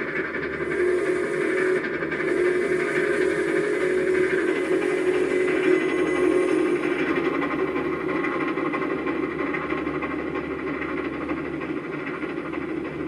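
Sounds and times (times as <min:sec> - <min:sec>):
steam train rumble: 0:00.0 - 0:13.0.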